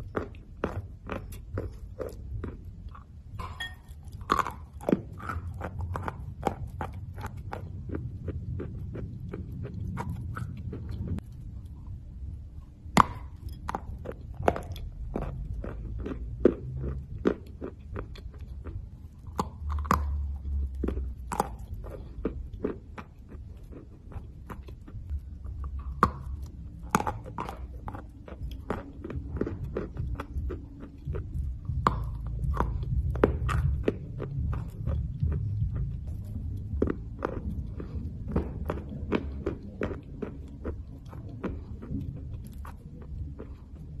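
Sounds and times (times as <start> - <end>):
chewing crunchy clay: 0.0 - 44.0.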